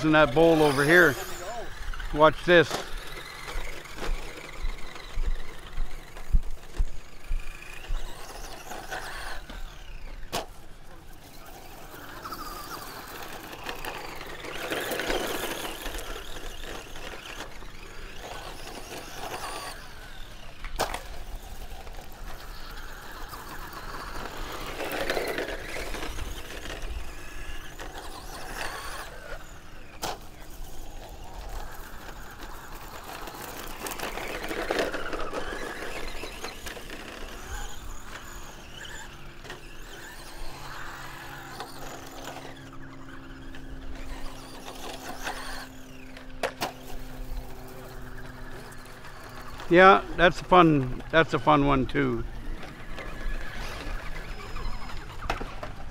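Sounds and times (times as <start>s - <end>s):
electric motor whine: 0.0s - 55.9s.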